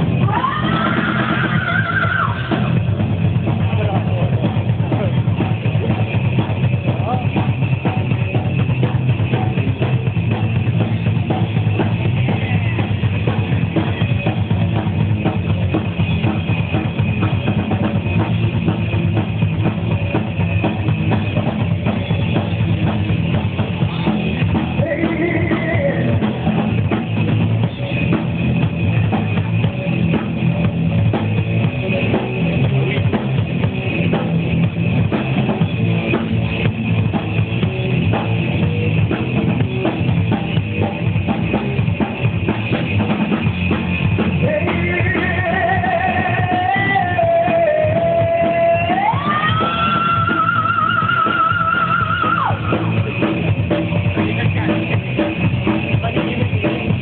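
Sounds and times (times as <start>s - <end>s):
drum kit beat: 0.0s - 57.0s
live rock band: 0.0s - 57.0s.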